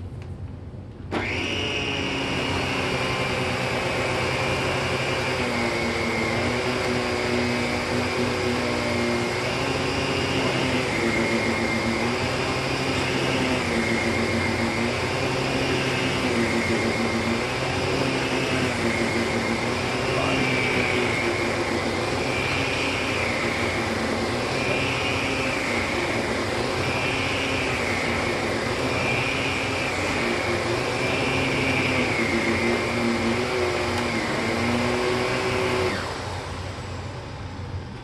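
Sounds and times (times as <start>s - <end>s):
vacuum cleaner running on carpet: 1.1s - 37.6s.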